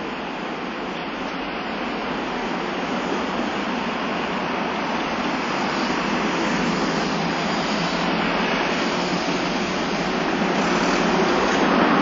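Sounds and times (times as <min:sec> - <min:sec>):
street traffic: 0:00.0 - 0:12.0
streetcar passing: 0:00.0 - 0:12.0.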